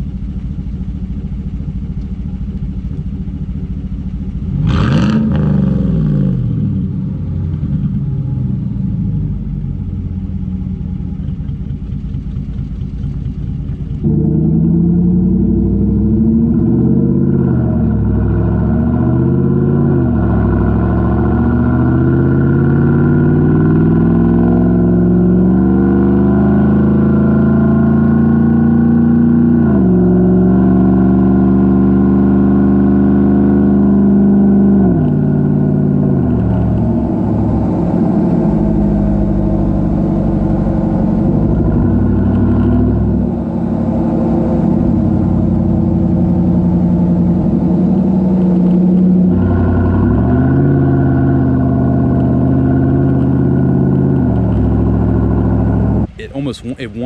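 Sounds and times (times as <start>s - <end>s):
pickup truck engine accelerating: 4.2s - 57.0s.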